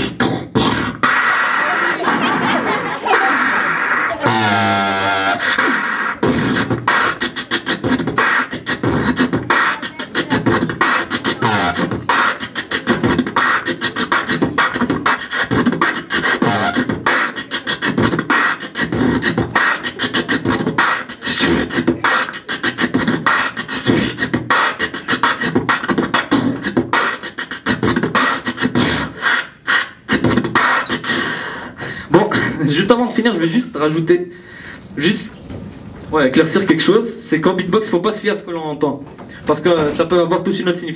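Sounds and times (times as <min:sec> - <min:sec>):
man beatboxing into microphone: 0:00.0 - 0:40.9.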